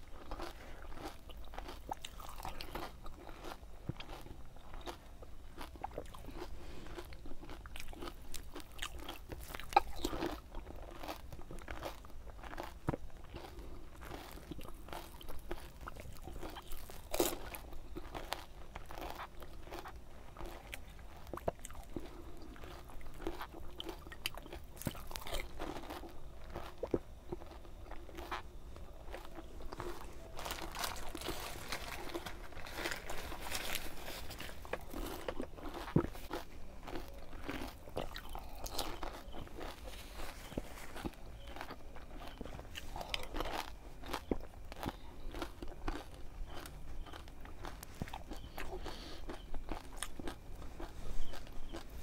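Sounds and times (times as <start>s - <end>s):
crisp shells crunching: 0.1s - 52.0s.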